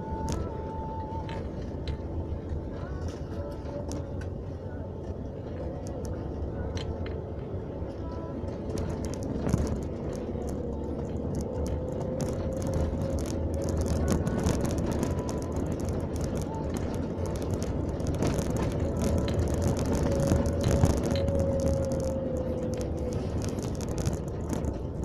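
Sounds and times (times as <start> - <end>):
car engine and road rumble: 0.0 - 25.0
steady whining tone: 0.0 - 25.0.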